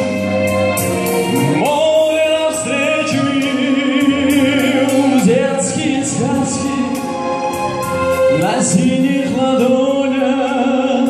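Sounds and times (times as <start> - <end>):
backing track with steady beat: 0.0 - 11.0
man singing with vibrato: 0.8 - 11.0.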